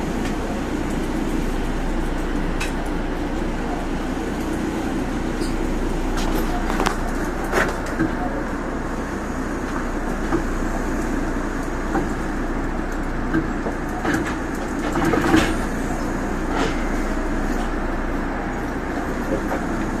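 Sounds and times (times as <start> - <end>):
steady hum inside train car: 0.0 - 20.0.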